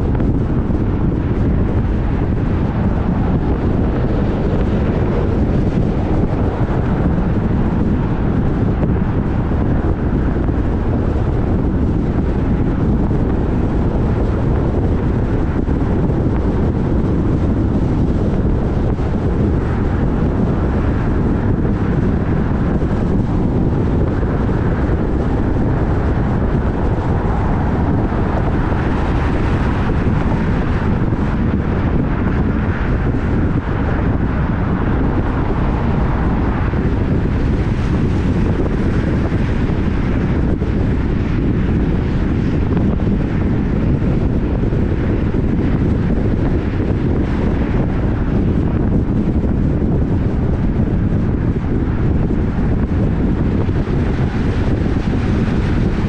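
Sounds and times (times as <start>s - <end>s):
steady low rumble: 0.0s - 56.0s
wind buffeting microphone: 0.0s - 56.0s.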